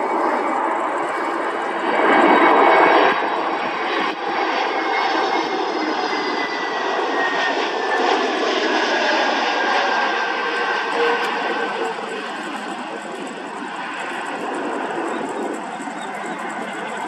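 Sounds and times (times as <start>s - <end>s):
jet roar with falling whine: 0.0s - 17.0s.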